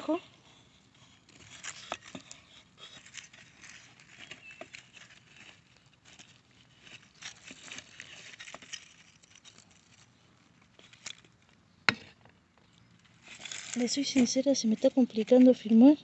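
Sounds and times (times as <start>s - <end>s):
trowel scraping in soil: 1.0s - 11.4s, 13.1s - 15.7s.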